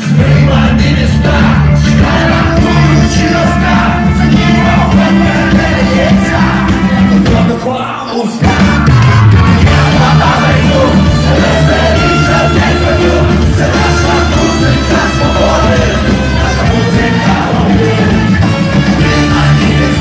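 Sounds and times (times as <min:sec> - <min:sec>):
live rock band with brass: 0:00.0 - 0:20.0
man singing and shouting: 0:00.0 - 0:20.0.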